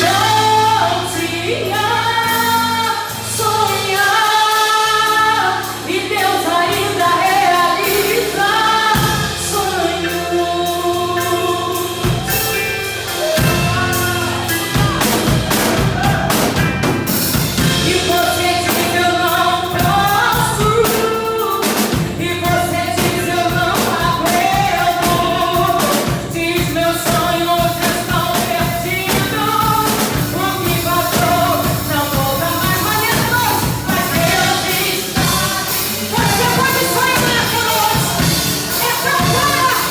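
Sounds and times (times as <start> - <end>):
drum kit: 0.0 - 39.9
singers over a band: 0.0 - 39.9.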